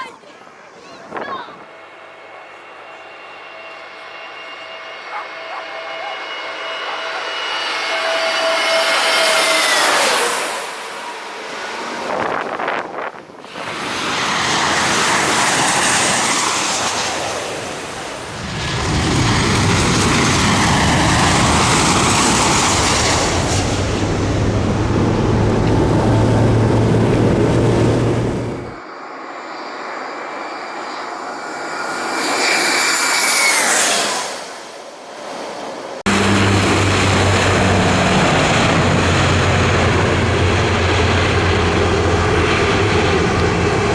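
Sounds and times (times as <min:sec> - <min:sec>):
jet airliners passing overhead: 0:00.0 - 0:43.9.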